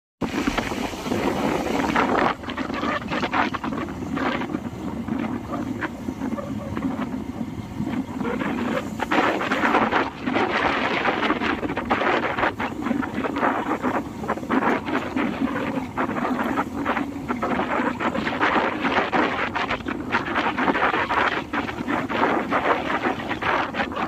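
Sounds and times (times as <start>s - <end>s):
motorcycle riding noise: 0.2s - 24.0s
wind buffeting microphone: 0.2s - 24.0s.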